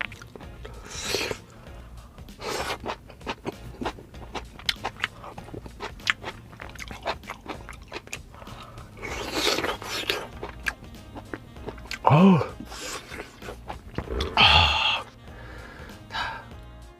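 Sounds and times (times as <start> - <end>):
close chewing and crunching: 0.0 - 14.6.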